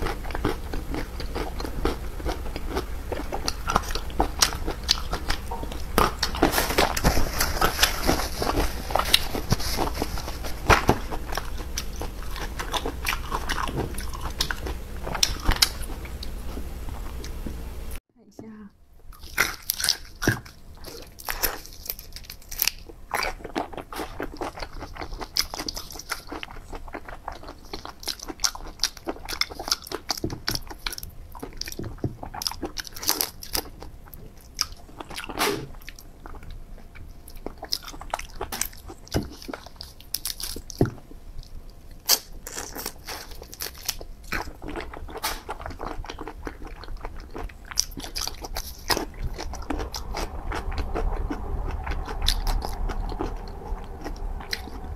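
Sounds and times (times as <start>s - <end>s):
person chewing shrimp: 0.0s - 17.6s, 19.1s - 54.9s.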